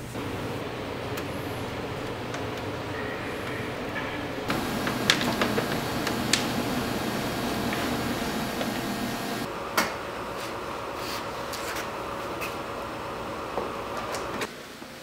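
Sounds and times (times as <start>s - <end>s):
shop room noise: 0.0s - 12.6s.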